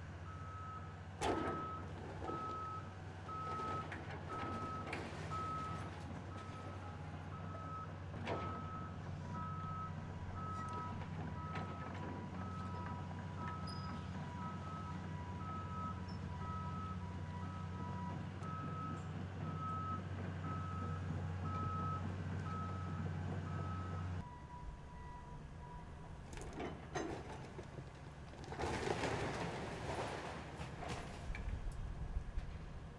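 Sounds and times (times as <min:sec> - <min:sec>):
excavator engine drone: 0:00.0 - 0:30.2.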